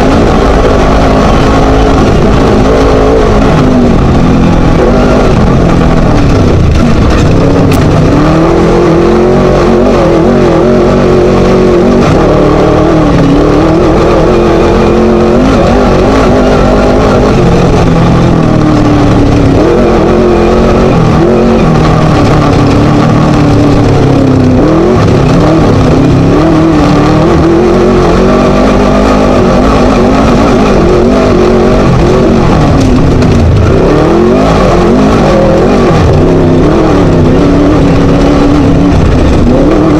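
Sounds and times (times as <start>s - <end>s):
race buggy engine revving: 0.0s - 39.9s.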